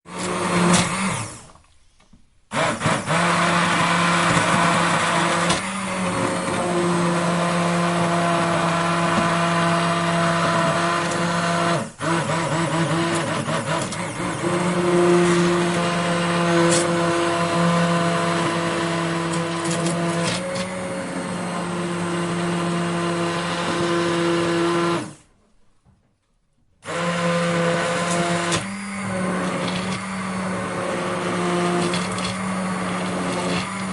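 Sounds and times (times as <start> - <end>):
electric blender whirring: 0.0 - 1.6, 2.5 - 25.3, 26.8 - 33.9.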